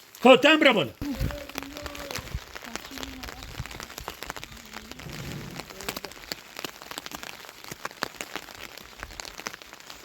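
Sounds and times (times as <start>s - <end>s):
rain drops hitting a surface: 0.0s - 10.0s.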